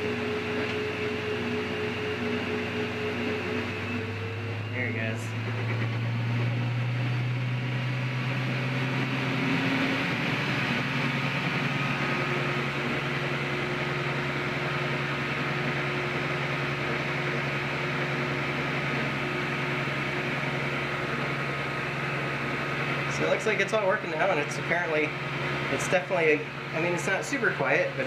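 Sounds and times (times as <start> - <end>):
washing machine spin cycle hum: 0.0 - 28.0.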